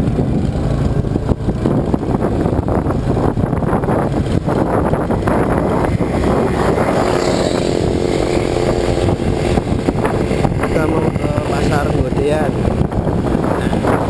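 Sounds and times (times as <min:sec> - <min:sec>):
motorcycle engine hum: 0:00.0 - 0:14.0
wind on microphone: 0:00.0 - 0:14.0.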